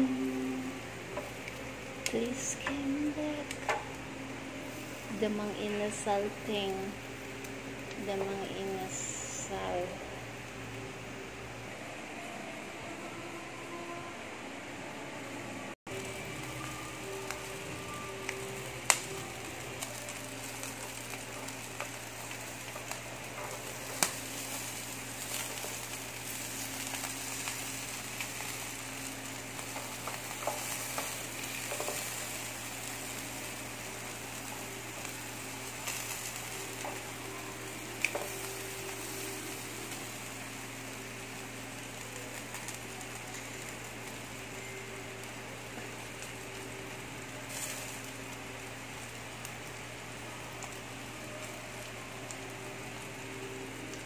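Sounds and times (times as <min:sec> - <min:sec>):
meat sizzling on a grill: 0:00.0 - 0:12.1, 0:15.9 - 0:54.0
steady low hum: 0:00.0 - 0:54.0.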